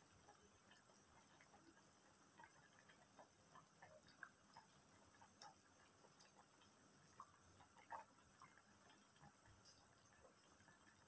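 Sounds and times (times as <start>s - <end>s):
soup simmering with small pops: 0.0s - 11.0s.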